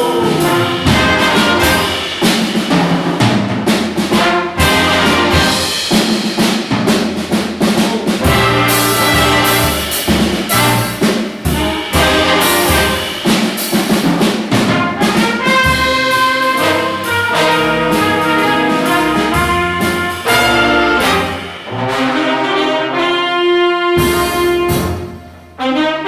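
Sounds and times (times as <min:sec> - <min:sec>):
brass band playing jazz: 0:00.0 - 0:26.0.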